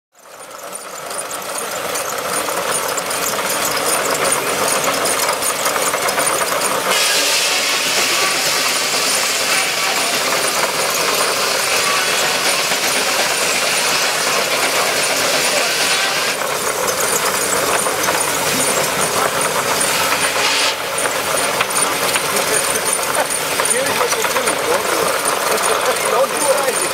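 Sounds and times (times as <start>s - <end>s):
sawmill cutting logs: 0.2s - 26.9s.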